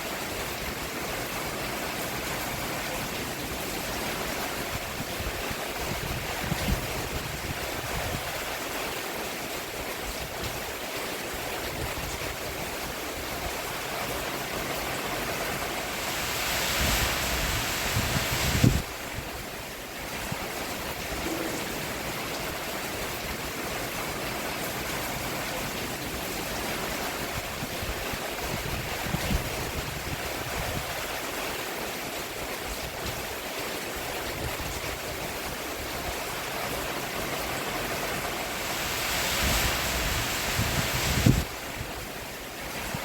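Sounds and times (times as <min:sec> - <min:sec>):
rain falling on a roof: 0:00.0 - 0:43.0.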